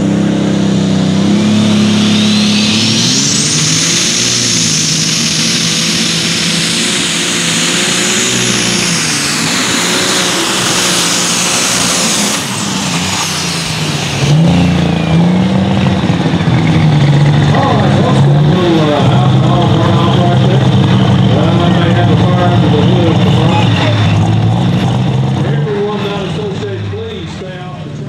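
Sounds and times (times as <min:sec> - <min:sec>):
high turbo whine: 0:00.0 - 0:28.0
tractor engine at full power: 0:00.0 - 0:28.0.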